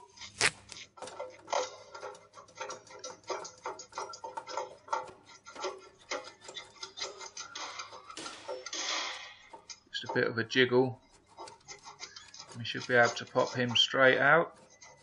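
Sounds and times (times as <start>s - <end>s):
hose clamp screw ticking: 0.0s - 15.0s.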